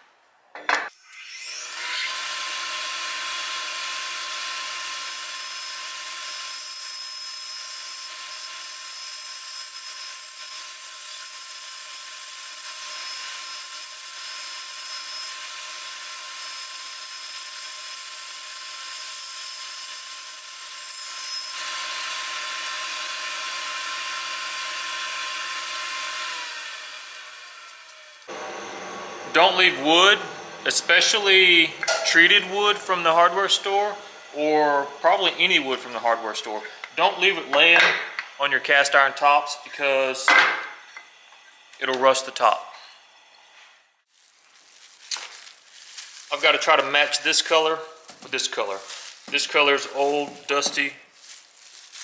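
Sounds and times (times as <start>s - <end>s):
bandsaw whining cutting wood: 0.9s - 40.1s, 45.1s - 52.0s.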